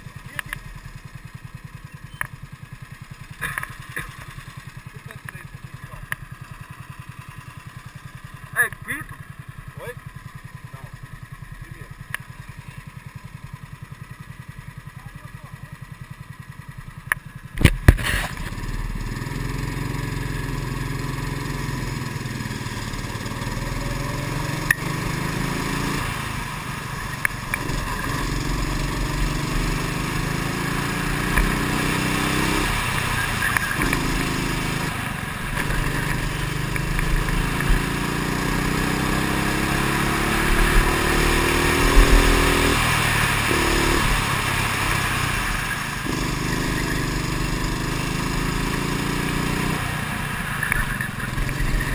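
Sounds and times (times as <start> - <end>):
kart engine: 0.0 - 51.9.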